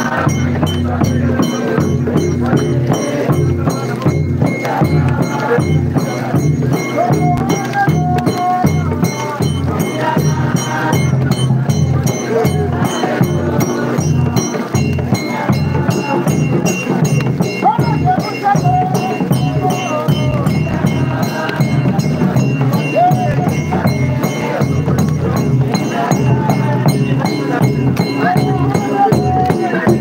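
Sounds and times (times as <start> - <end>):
frame drums beating: 0.0 - 30.0
group singing a hymn: 0.0 - 30.0.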